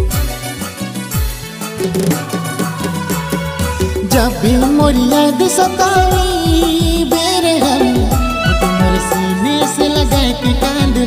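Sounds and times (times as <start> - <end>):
bending melody line: 1.6 - 11.0.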